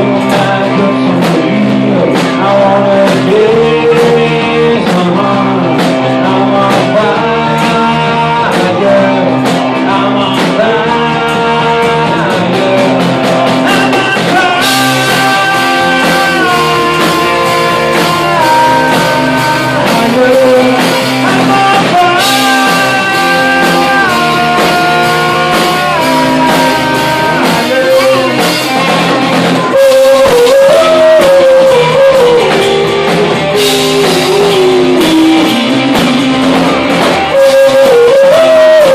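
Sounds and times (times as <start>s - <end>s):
person singing: 0.0s - 38.9s
rock band playing: 0.0s - 38.9s.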